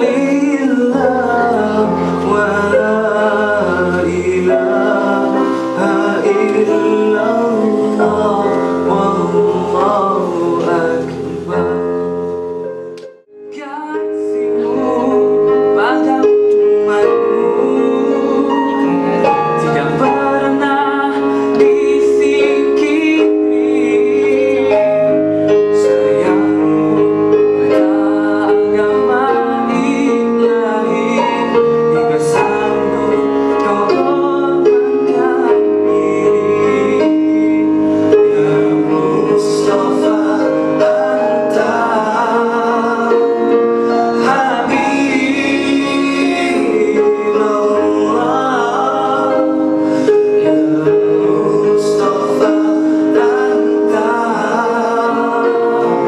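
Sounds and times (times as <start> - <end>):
keyboard accompaniment: 0.0 - 56.0
man singing with vibrato: 0.0 - 56.0.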